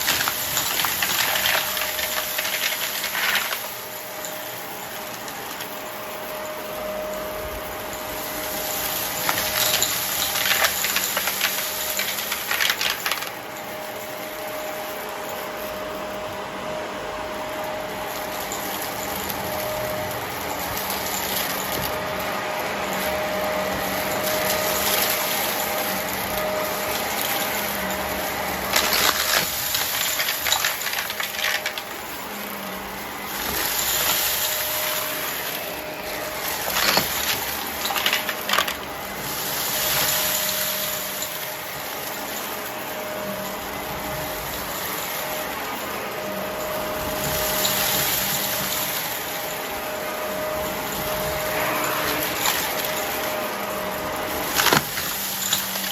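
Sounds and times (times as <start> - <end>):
debris crackling in vacuum: 0.0 - 55.9
vacuum cleaner running: 0.0 - 55.9.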